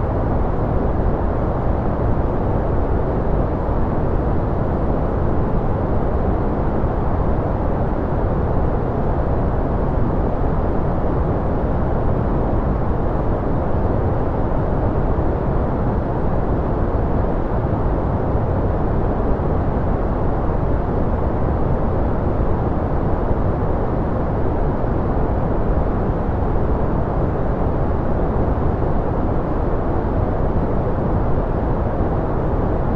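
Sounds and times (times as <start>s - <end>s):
deep steady noise rush: 0.0s - 32.9s.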